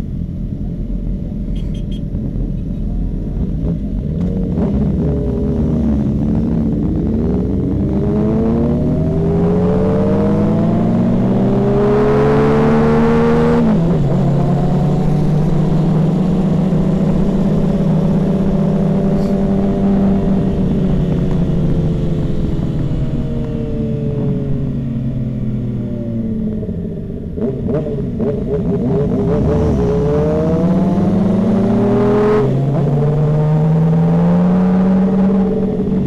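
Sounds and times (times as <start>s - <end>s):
motorcycle engine revving: 3.2s - 36.0s.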